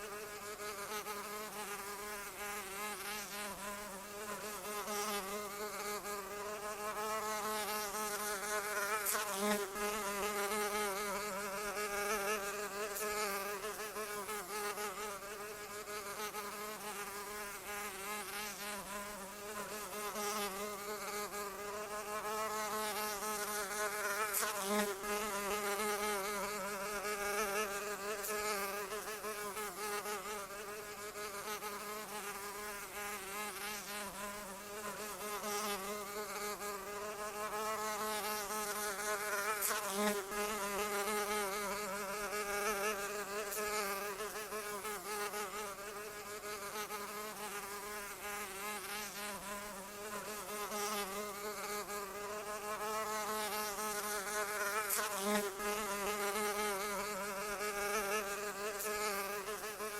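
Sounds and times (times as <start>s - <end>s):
flying insect buzzing: 0.0s - 59.9s.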